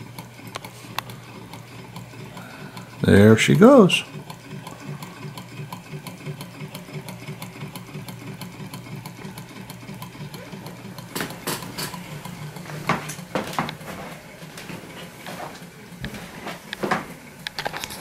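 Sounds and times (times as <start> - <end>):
engine flywheel ticking: 0.0 - 15.0.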